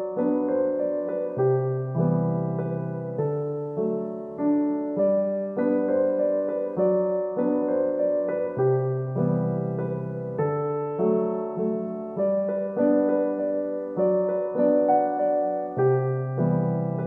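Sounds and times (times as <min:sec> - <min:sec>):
gentle piano tune: 0:00.0 - 0:17.0.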